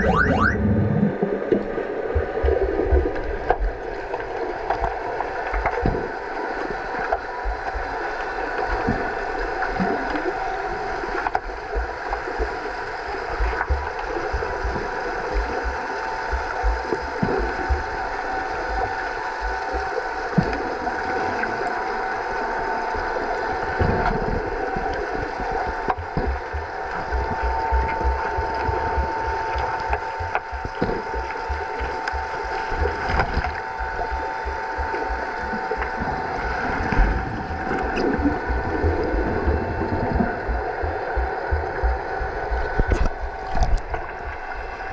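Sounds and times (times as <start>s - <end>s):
steady underwater hum: 0.0s - 44.9s
water bubbling: 0.0s - 44.9s.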